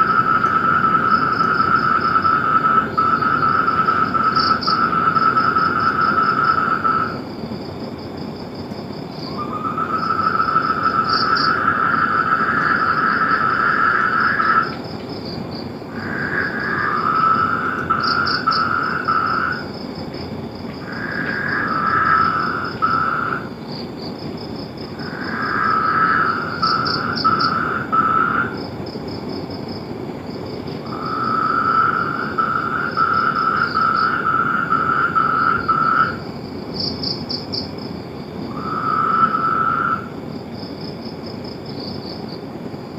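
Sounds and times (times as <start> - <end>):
frogs trilling: 0.0 - 7.9, 8.6 - 42.9.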